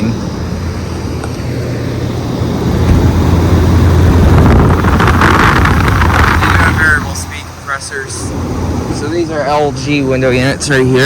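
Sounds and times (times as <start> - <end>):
air conditioner compressor hum: 0.0 - 11.0
air conditioner fans rushing: 0.0 - 11.0.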